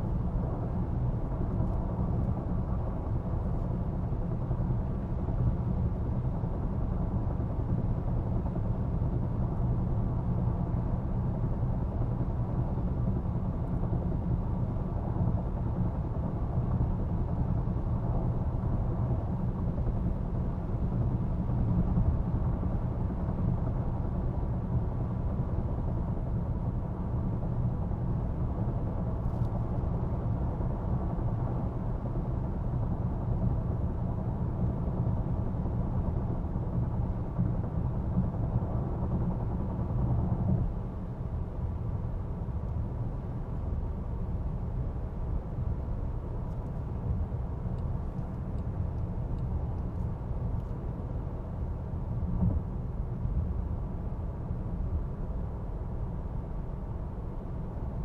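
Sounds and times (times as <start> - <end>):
road and tyre noise in car: 0.0 - 58.0.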